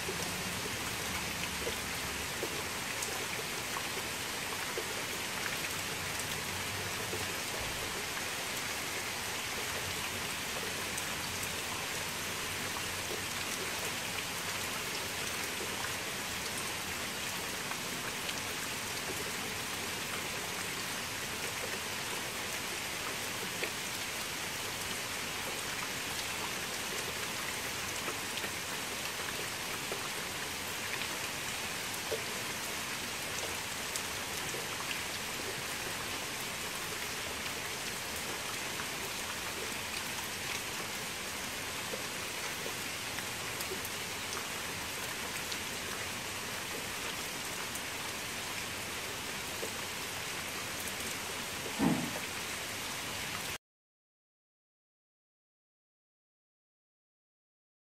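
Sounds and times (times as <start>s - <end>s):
rain falling on puddle: 0.0s - 53.6s.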